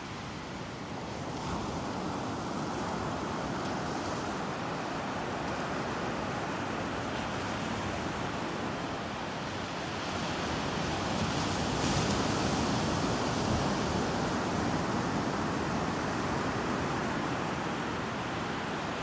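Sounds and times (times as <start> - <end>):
waves washing up a beach: 0.0 - 19.0.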